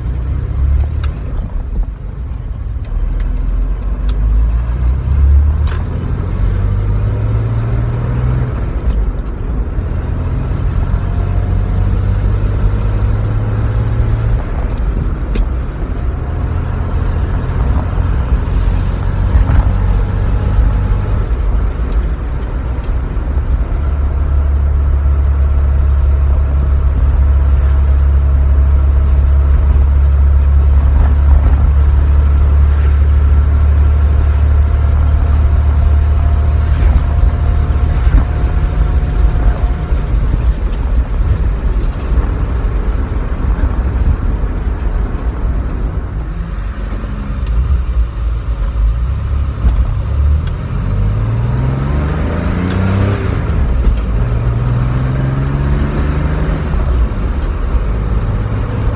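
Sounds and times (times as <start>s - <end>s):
car engine droning in cabin: 0.0s - 58.9s
engine revving: 4.0s - 58.9s.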